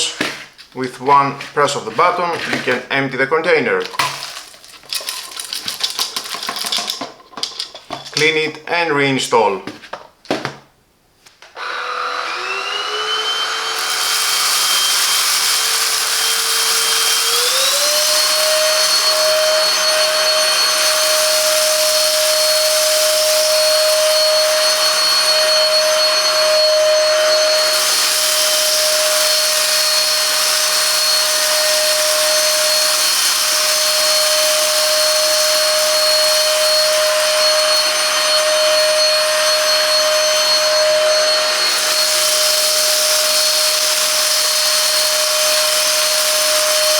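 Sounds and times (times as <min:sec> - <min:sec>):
handheld vacuum motor whine: 0:04.0 - 0:08.1, 0:11.6 - 0:46.9.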